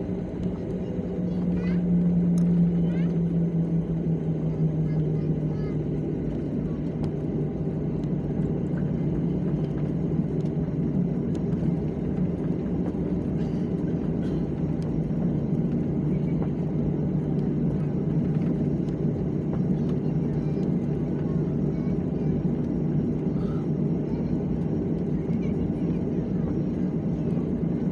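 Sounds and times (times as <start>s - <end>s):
jet engines rumbling in cabin: 0.0s - 27.9s.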